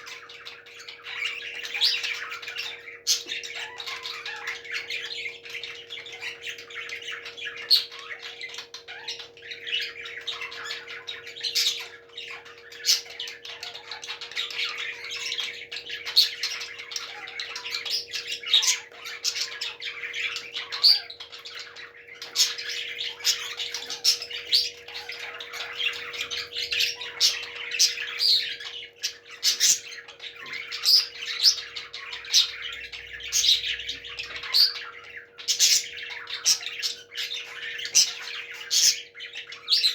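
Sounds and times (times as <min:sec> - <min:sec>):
faint steady hum: 0:00.0 - 0:39.9
parrots squawking and chirping: 0:00.0 - 0:39.9.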